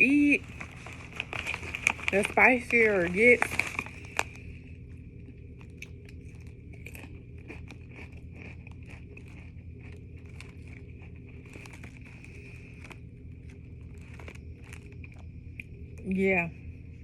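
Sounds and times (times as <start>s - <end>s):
person chewing crunchy chips: 0.0s - 16.0s
steady background hum: 0.0s - 17.0s.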